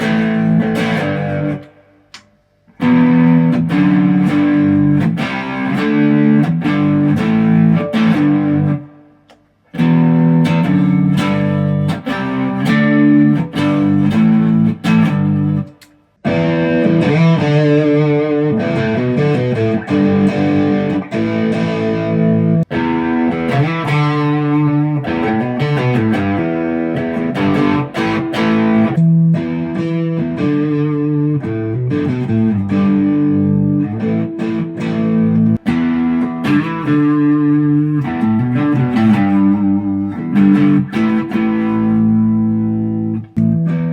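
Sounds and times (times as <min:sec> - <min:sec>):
electric guitar chords: 0:00.0 - 0:43.9.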